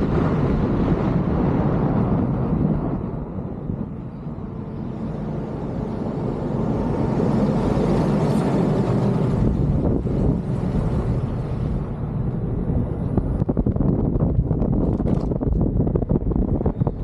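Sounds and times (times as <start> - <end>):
road and tyre noise: 0.0 - 17.0
wind rushing over microphone: 0.0 - 17.0.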